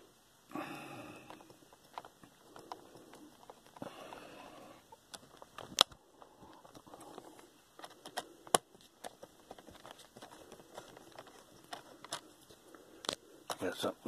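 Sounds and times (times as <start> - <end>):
faint handling and rustling: 1.1 - 14.0.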